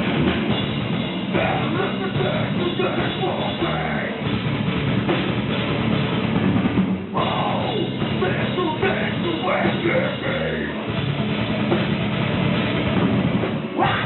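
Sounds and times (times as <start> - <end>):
drum kit pounding: 0.0 - 14.0
heavy metal band playing live: 0.0 - 14.0.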